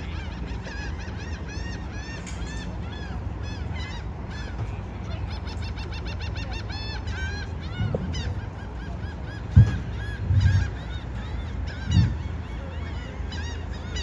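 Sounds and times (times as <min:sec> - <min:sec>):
flock of birds chirping: 0:00.0 - 0:14.0.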